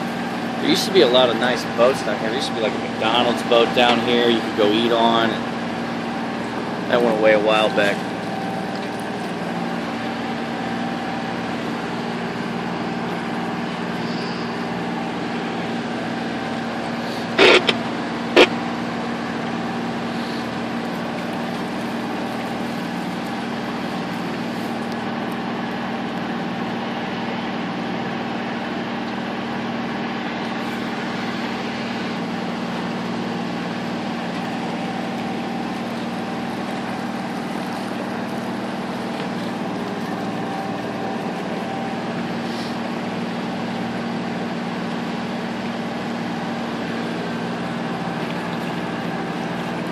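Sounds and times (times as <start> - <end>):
boat engine humming: 0.0 - 49.9.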